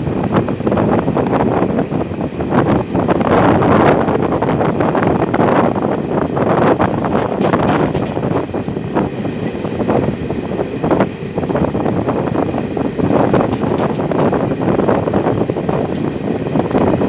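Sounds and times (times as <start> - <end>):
gusty thumps: 0.0 - 17.0
train rumbling at speed: 0.0 - 17.0
wind buffeting microphone: 0.0 - 17.0.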